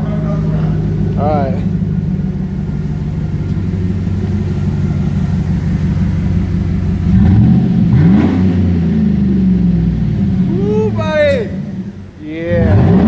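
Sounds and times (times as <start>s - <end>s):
engine revving: 0.0s - 13.0s
truck engine idling with deep rumble: 0.0s - 13.0s.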